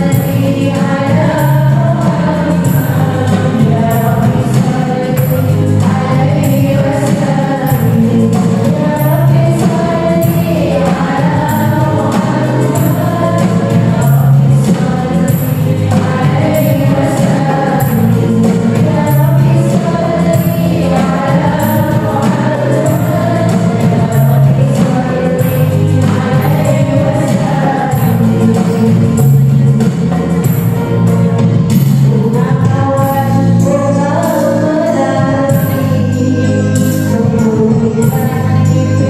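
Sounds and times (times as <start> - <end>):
keyboard: 0.0 - 39.0
steady percussion beat: 0.0 - 39.0
voices singing devotional songs: 0.0 - 39.0.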